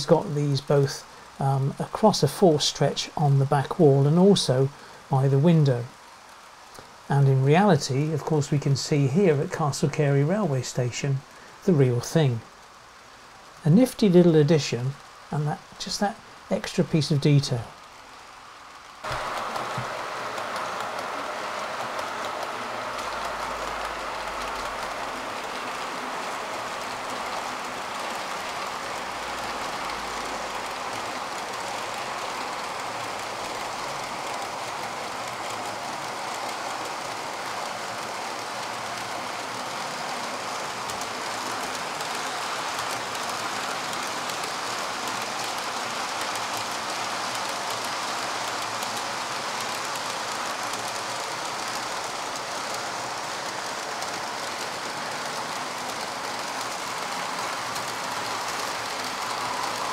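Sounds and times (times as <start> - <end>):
model train wheels rattling: 0.0 - 59.9.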